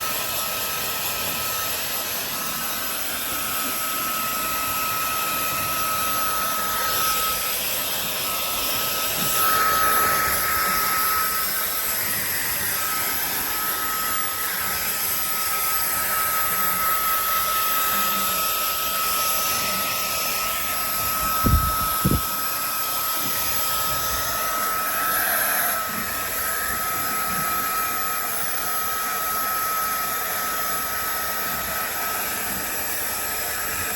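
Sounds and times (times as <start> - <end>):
hair dryer blowing: 0.0 - 33.9.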